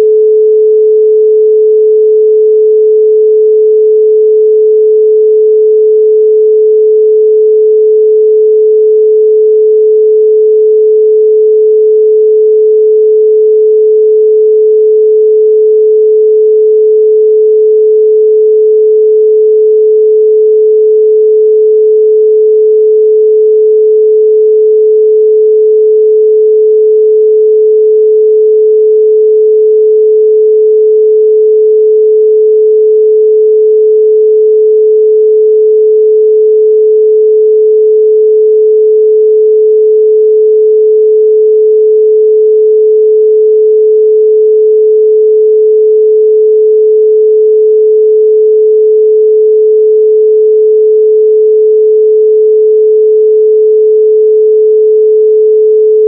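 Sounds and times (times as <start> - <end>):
pure sine tone: 0.0 - 56.0.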